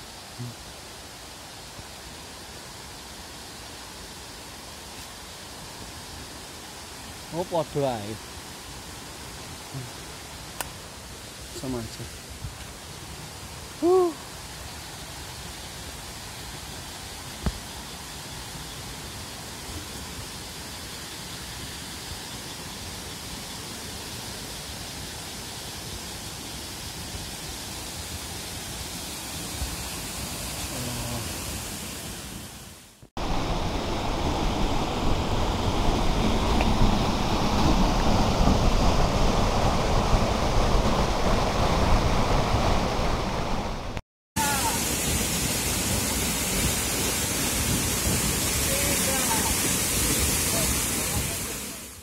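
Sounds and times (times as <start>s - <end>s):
waterfall and stream rushing: 0.0s - 52.0s.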